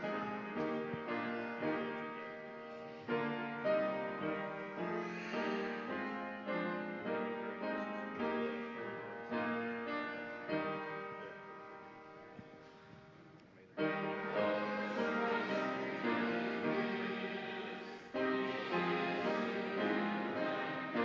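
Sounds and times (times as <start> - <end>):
grand piano chords: 0.0 - 13.0, 13.7 - 21.0.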